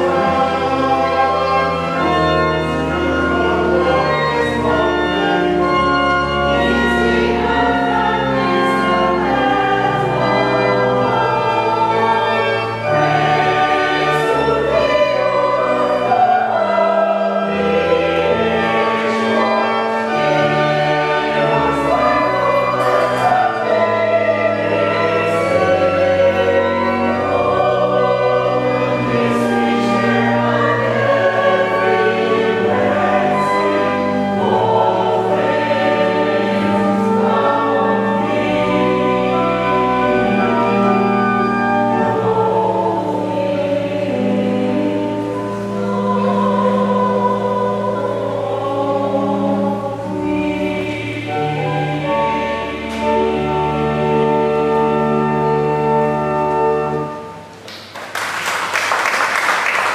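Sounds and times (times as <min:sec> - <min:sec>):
organ sustaining low notes: 0:00.0 - 0:57.6
church choir singing: 0:00.0 - 0:59.9.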